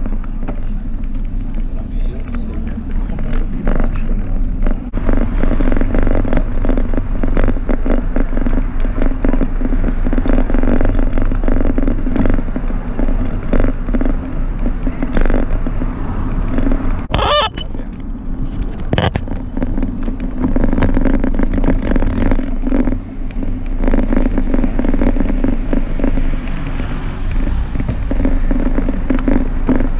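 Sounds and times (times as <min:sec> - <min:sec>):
bicycle riding noise: 0:00.0 - 0:29.9
wheels rattling over rough paving: 0:00.0 - 0:29.9.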